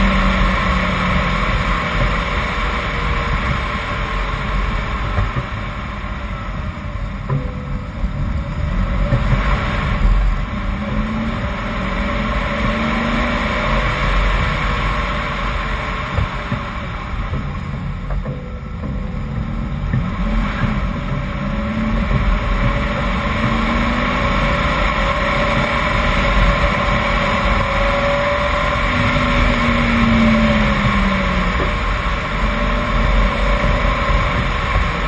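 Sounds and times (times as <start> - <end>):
car engine accelerating: 0.0 - 35.0
wind and tyre noise: 0.0 - 35.0.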